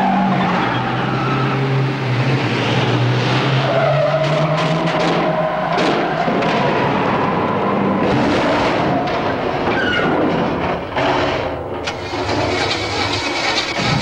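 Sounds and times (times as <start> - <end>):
car engines revving hard: 0.0 - 10.7, 11.3 - 14.0.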